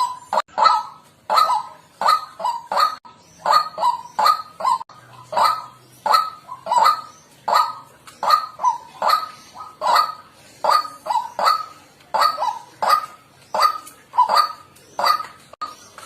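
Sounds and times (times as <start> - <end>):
waterhen harsh calls: 0.0 - 15.6.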